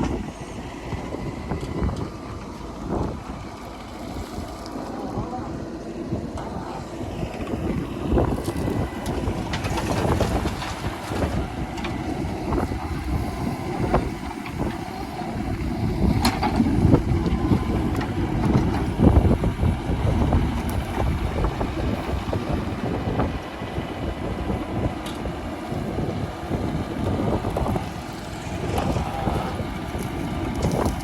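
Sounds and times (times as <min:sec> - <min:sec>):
diesel engine running: 0:00.0 - 0:31.0
wind buffeting microphone: 0:00.0 - 0:31.0.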